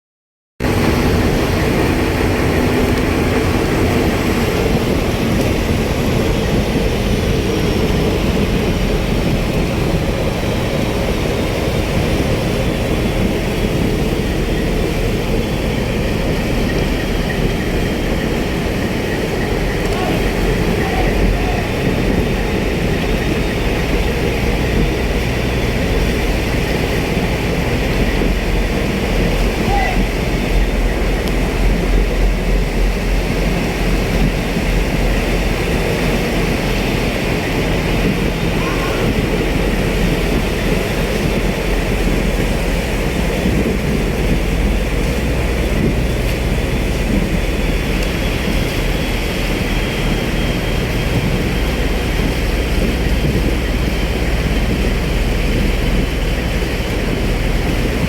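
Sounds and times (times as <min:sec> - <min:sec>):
constant rushing noise: 0:00.6 - 0:58.0
diesel engines rumbling: 0:00.6 - 0:58.0.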